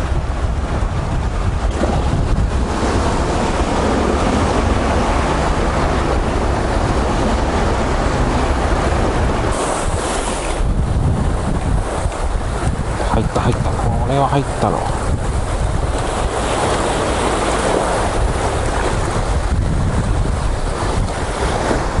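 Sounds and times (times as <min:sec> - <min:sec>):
waves breaking on rocky shore: 0:00.0 - 0:22.0
wind buffeting microphone: 0:00.0 - 0:22.0.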